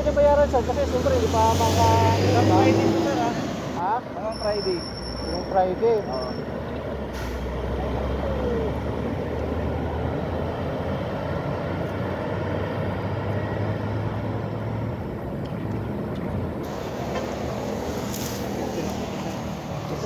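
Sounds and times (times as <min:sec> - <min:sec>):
bus and cars driving away: 0:00.0 - 0:20.0.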